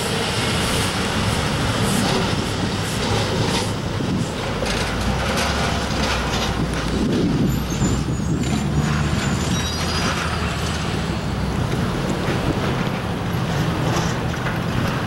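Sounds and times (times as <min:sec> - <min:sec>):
trucks driving past: 0:00.0 - 0:15.0.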